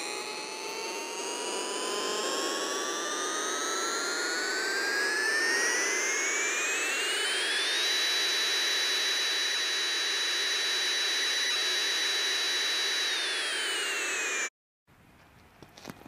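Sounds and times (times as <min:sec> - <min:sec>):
jet engine whine: 0:00.0 - 0:14.5.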